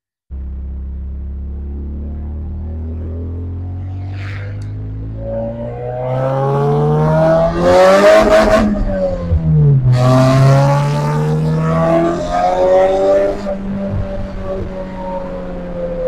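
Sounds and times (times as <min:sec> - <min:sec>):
car engine accelerating hard: 0:00.3 - 0:16.0.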